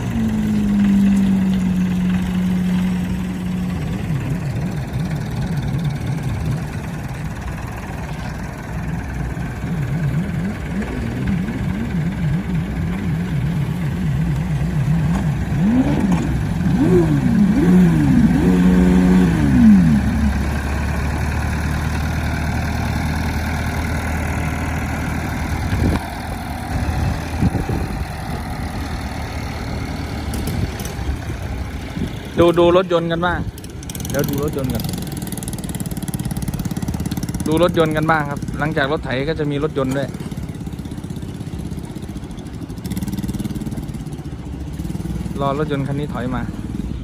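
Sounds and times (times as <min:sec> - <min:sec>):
tractor engine revving: 0:00.0 - 0:47.0.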